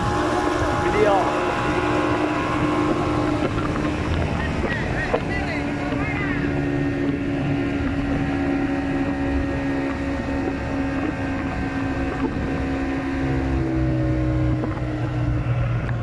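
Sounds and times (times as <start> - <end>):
lower engine note: 0.0 - 16.0
outboard motor running: 0.0 - 16.0
rush of wind and water: 0.0 - 16.0.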